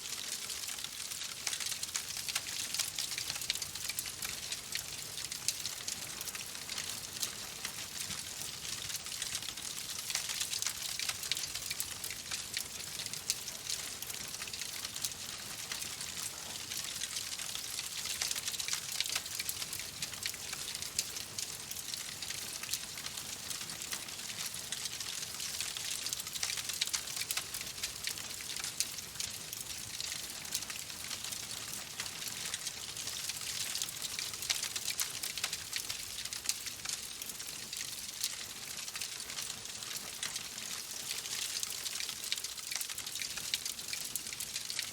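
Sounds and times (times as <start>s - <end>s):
wood fire crackling and popping: 0.1s - 44.9s.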